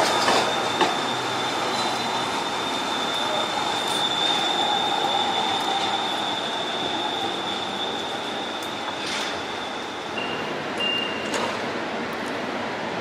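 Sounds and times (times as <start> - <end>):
train wheel squeal: 0.0 - 11.5
light-rail train running: 0.0 - 13.0.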